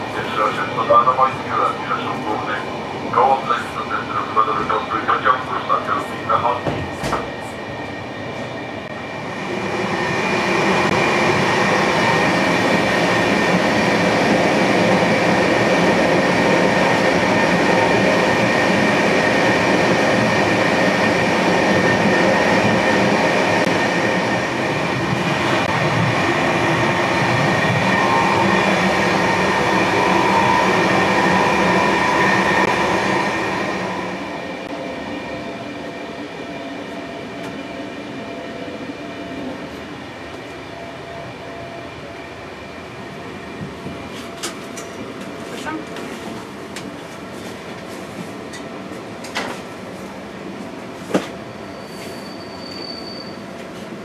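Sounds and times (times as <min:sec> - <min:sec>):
train running on rails: 0:00.0 - 0:54.0.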